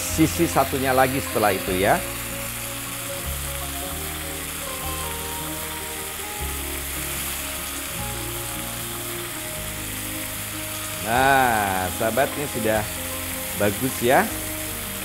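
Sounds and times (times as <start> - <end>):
background music: 0.0 - 15.0
meat sizzling on grill pan: 0.0 - 15.0.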